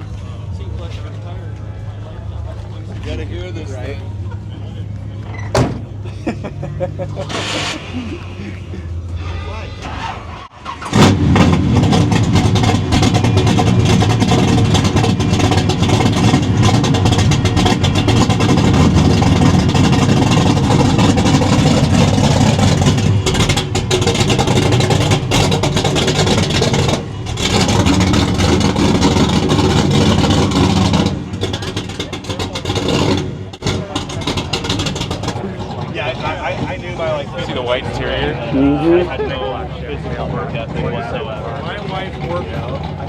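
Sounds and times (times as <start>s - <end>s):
car engine starting and revving: 6.7s - 43.0s.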